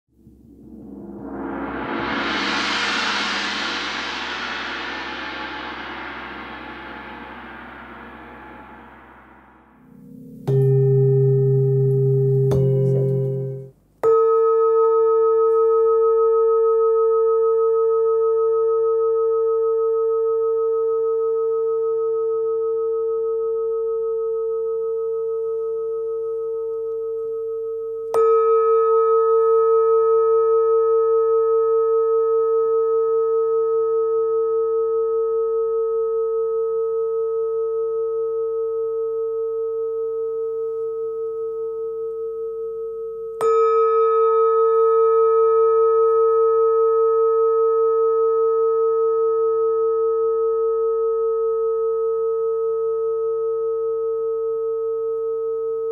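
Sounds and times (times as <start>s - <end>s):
bright chime of bowl strike: 0.2s - 24.5s, 25.2s - 34.9s, 37.8s - 51.3s
singing bowl ringing: 0.2s - 55.9s.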